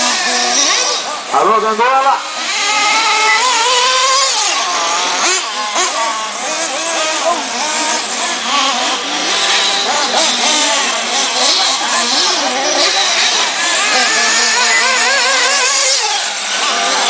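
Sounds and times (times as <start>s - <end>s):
small nitro engines revving: 0.0s - 17.0s.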